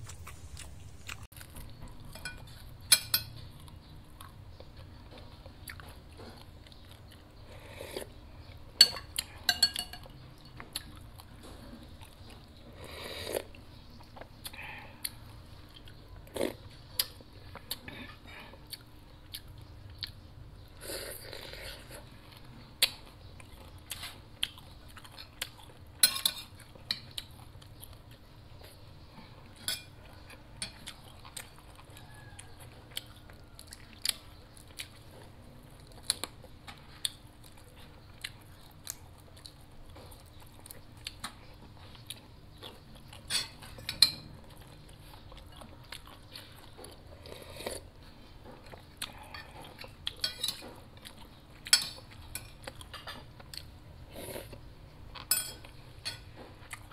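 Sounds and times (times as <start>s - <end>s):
crunching and chewing: 0.0s - 56.9s.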